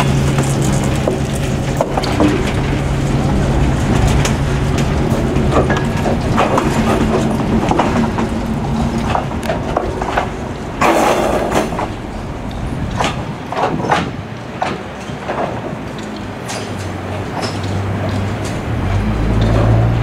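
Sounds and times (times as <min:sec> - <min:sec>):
diesel locomotive engine humming: 0:00.0 - 0:20.0.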